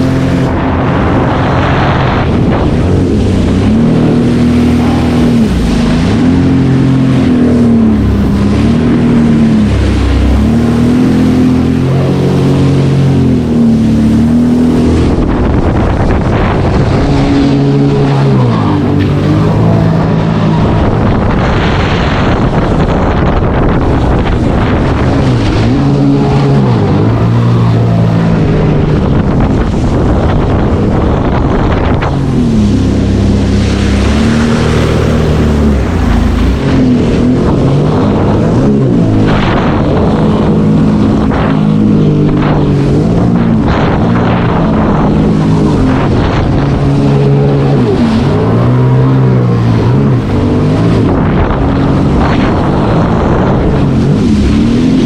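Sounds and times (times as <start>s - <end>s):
watercraft engine revving: 0.0s - 55.0s
wind buffeting microphone: 0.0s - 55.0s.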